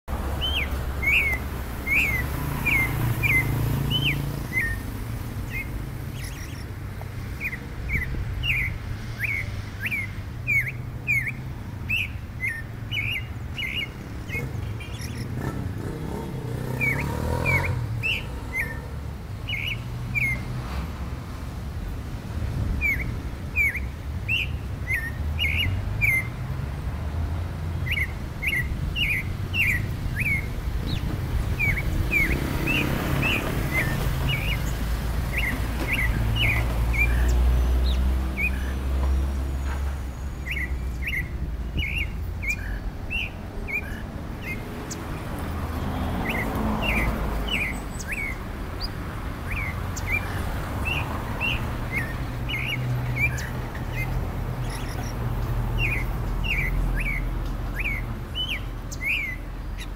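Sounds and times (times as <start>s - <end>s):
bird chirping sharp notes: 0.1s - 20.6s, 22.8s - 26.4s, 27.8s - 59.9s.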